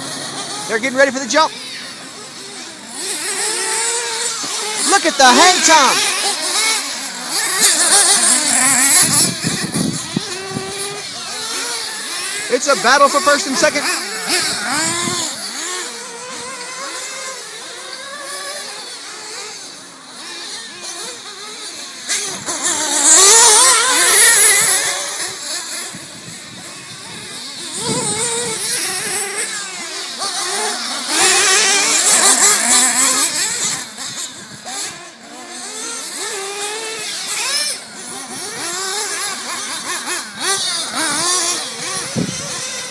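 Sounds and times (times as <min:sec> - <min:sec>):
rc car engines revving: 0:00.0 - 0:42.9.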